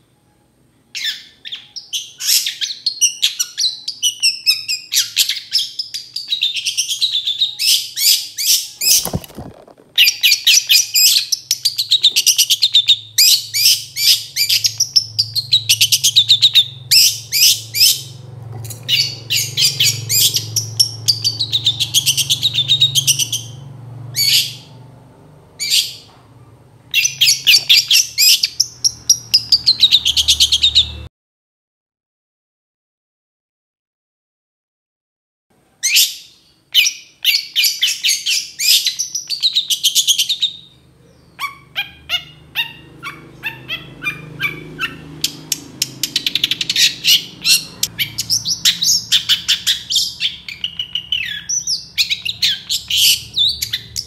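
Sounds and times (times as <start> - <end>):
bird chattering song: 1.0 - 24.7, 26.9 - 31.1, 35.8 - 54.0.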